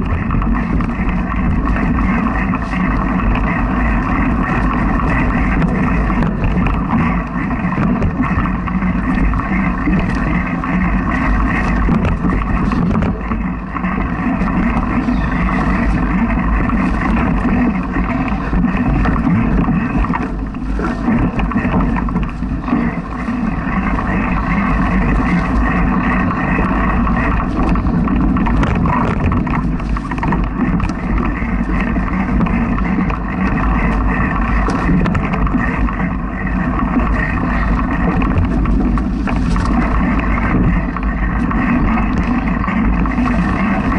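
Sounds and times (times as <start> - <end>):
bike tyres rumbling on dirt trail: 0.0 - 43.9.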